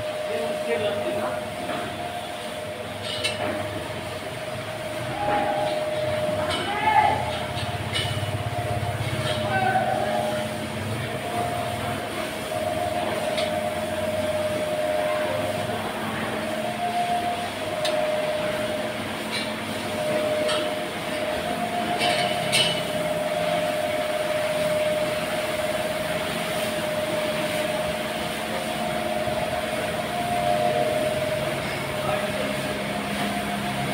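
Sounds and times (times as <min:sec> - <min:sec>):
mechanical drone with hum: 0:00.0 - 0:33.9.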